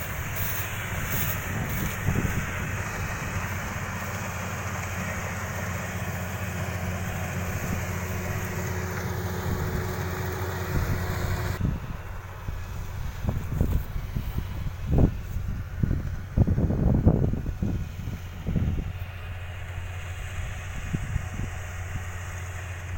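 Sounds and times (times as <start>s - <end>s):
combine harvester engine running: 0.0s - 22.9s.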